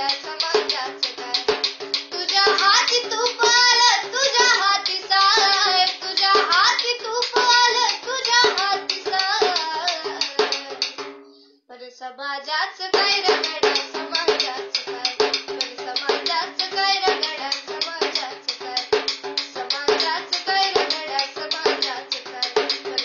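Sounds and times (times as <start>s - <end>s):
girl singing: 0.0s - 11.1s, 11.7s - 23.0s
hand frame drum beating: 0.0s - 11.3s, 13.0s - 23.0s.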